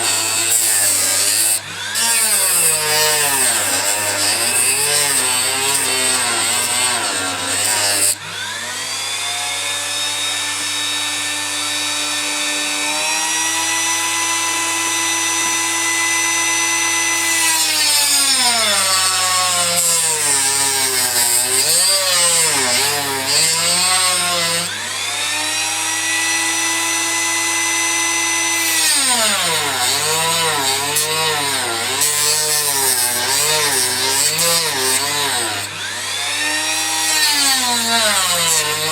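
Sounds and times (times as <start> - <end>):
rotary tool cutting copper: 0.0 - 8.5, 15.0 - 38.9.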